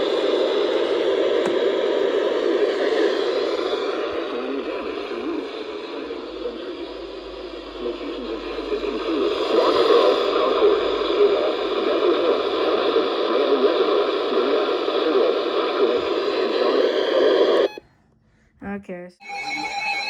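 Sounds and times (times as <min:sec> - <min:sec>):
radio static hiss: 0:00.0 - 0:17.8.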